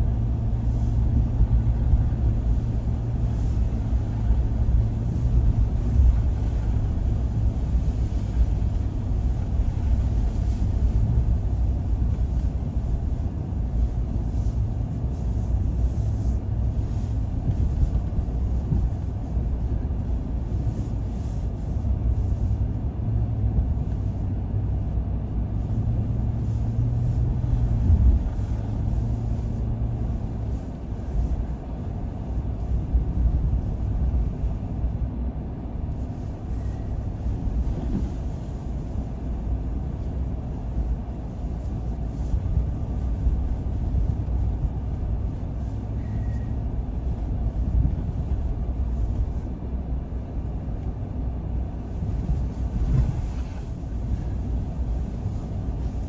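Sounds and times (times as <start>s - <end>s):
car driving rumble: 0.0s - 56.0s
low hum: 0.0s - 56.0s.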